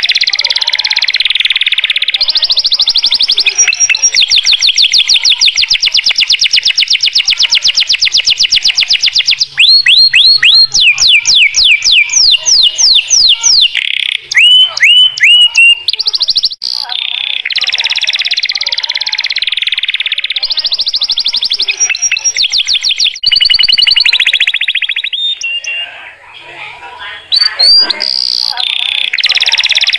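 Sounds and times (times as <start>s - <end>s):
canary singing: 0.0s - 29.9s.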